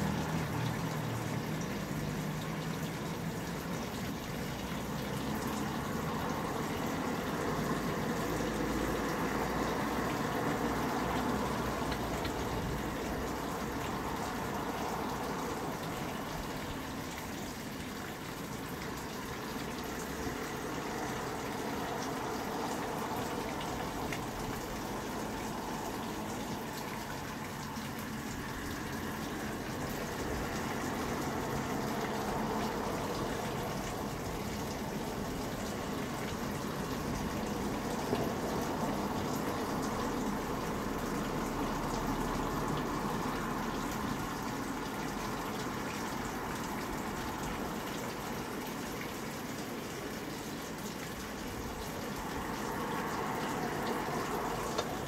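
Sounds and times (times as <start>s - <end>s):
tap water running: 0.0s - 55.0s.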